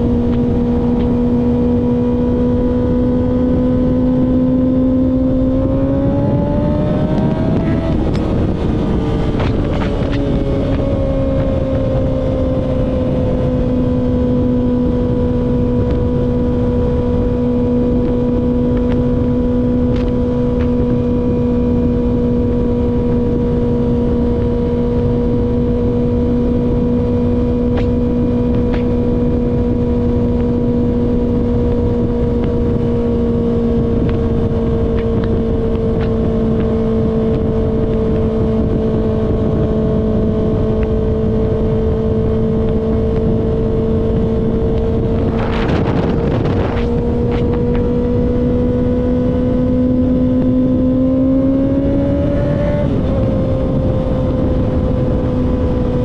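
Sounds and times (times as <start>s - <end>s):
motorcycle engine at high revs: 0.0s - 56.0s
wind rushing: 4.9s - 14.5s, 19.8s - 56.0s.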